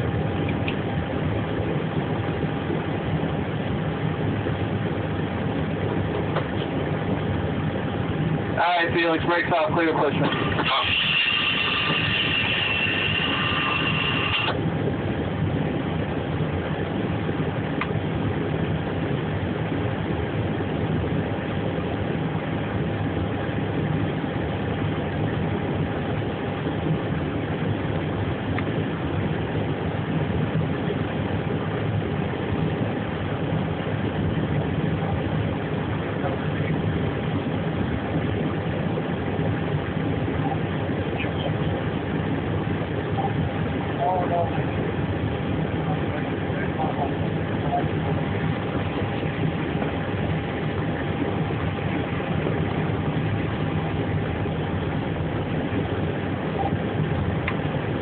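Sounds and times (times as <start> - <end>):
airliner engine drone: 0.0 - 58.0
faint constant whine: 0.0 - 58.0.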